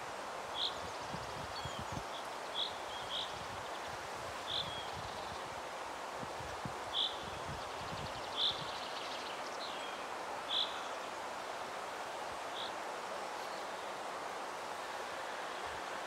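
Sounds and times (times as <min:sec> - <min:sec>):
wind rustling trees: 0:00.0 - 0:16.0.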